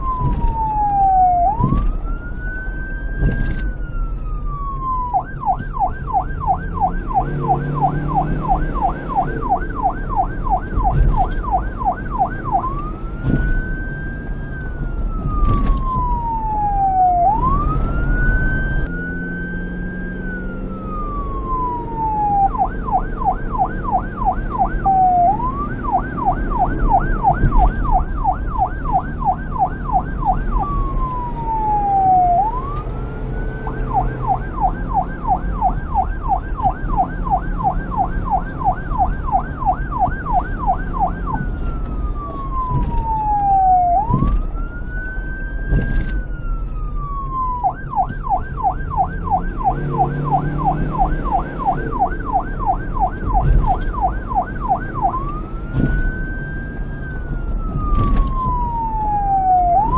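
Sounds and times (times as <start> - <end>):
police siren yelp and wail: 0.0 - 59.9.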